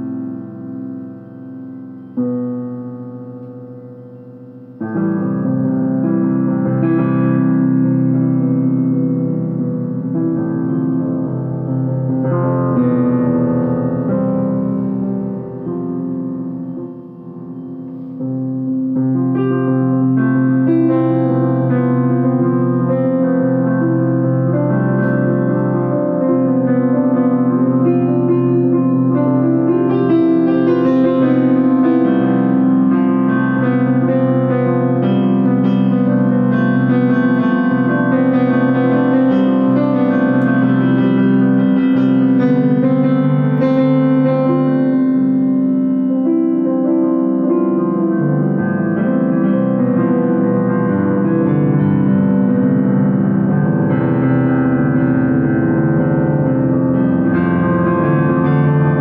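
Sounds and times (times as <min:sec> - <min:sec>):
piano-like keyboard chords: 0:00.0 - 0:59.0.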